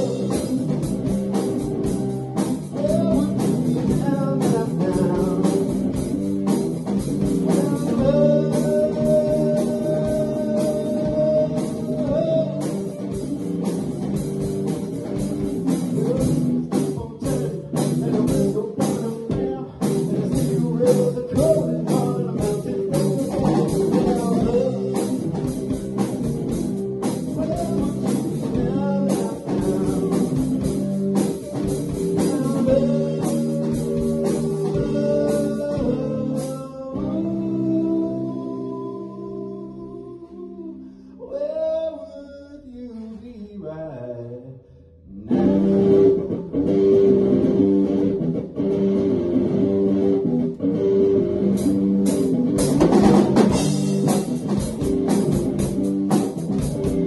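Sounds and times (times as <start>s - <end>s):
rock band playing: 0.0s - 39.3s, 45.3s - 57.0s.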